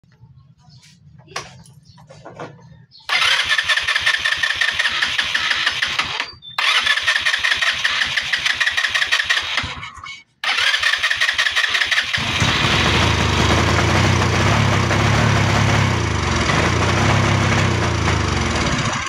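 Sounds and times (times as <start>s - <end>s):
motorcycle starter cranking engine: 3.1s - 19.0s.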